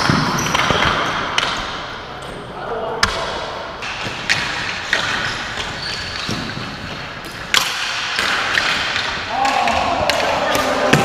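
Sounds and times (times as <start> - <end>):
hockey sticks and ball clacking: 0.0 - 11.0
murmur of hall: 0.0 - 11.0.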